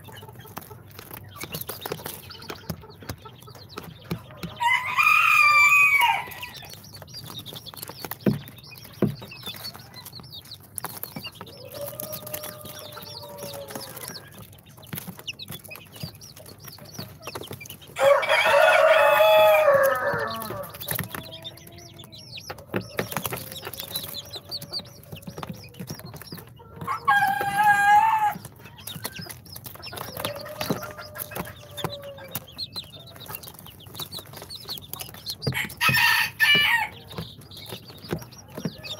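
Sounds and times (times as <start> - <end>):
chickens calling: 0.0 - 38.9.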